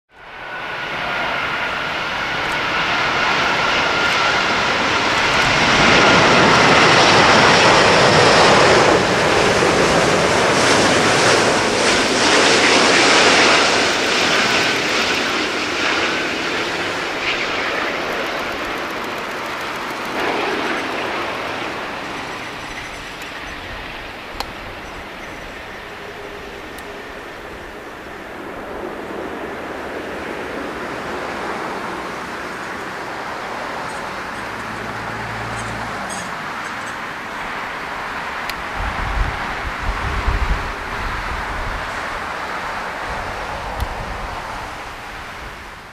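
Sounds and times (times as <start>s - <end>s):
jet airliner roar and whine: 0.1s - 45.9s.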